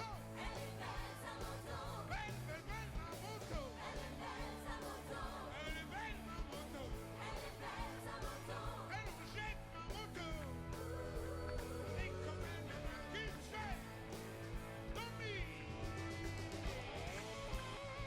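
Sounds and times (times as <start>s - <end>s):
bass line: 0.0s - 18.0s
drums: 0.0s - 18.0s
rock music: 0.0s - 18.0s.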